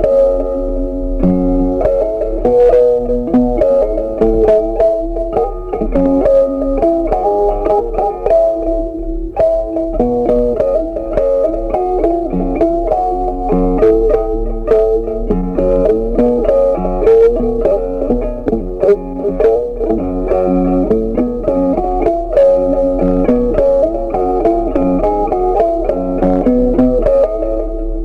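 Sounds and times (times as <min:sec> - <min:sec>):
plucked instrumental music: 0:00.0 - 0:28.0.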